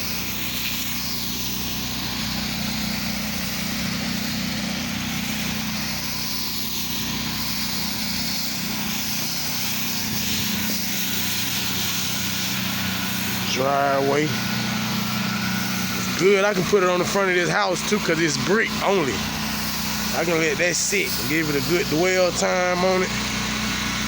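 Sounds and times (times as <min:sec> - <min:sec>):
small gas engine running: 0:00.0 - 0:24.0
spray nozzle hissing: 0:00.0 - 0:24.0.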